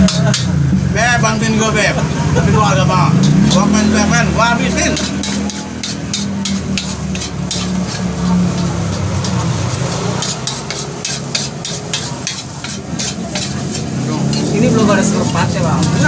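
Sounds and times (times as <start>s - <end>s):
metal cutlery scraping on a plate: 0.0s - 0.6s, 3.1s - 16.0s.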